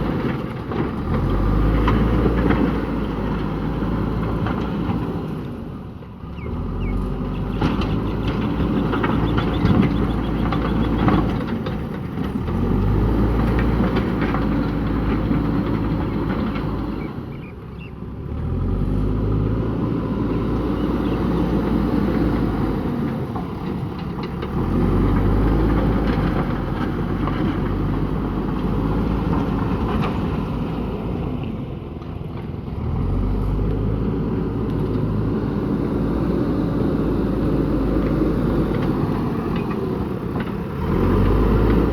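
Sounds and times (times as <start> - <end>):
diesel engine revving: 0.0 - 17.5, 18.1 - 41.9.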